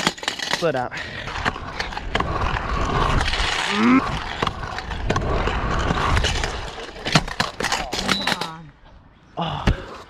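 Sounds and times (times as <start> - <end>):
scooter wheels rolling on concrete: 0.0 - 9.0.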